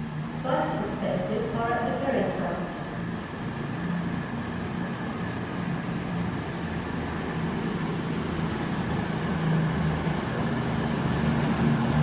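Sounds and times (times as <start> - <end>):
diesel train engines droning: 0.0 - 12.0.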